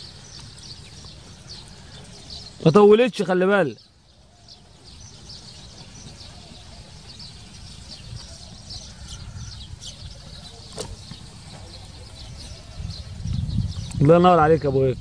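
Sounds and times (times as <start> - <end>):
low rumble of wind: 0.0 - 15.0
small birds chirping: 0.0 - 15.0.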